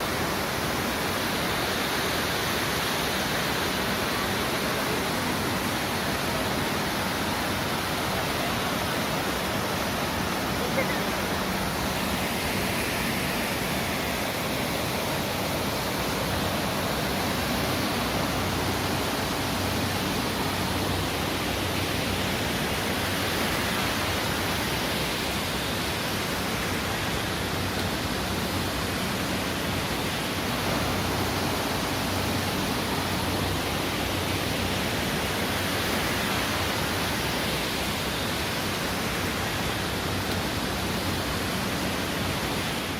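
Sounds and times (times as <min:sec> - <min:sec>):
river flowing: 0:00.0 - 0:42.9.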